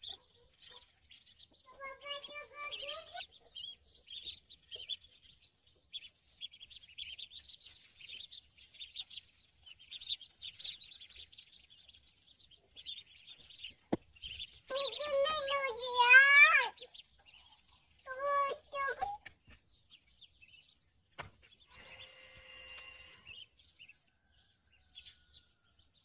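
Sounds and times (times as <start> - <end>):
ducklings peeping: 0.0 - 26.0.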